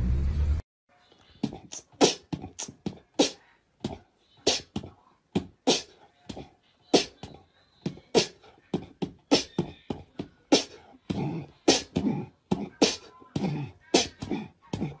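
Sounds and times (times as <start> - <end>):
person beatboxing: 1.4 - 15.0.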